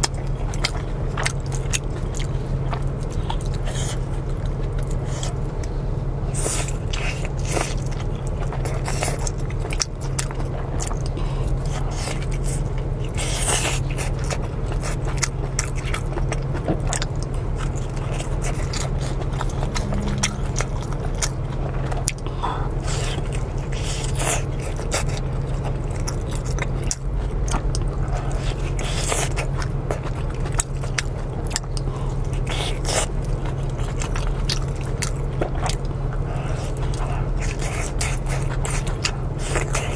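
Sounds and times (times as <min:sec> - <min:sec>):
chewing and biting noodles: 0:00.0 - 0:39.9
steady low hum: 0:00.0 - 0:39.9.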